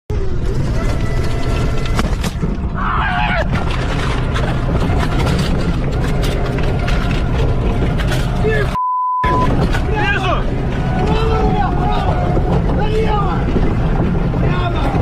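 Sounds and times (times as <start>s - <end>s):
vehicle engine and road rumble: 0.1s - 15.0s.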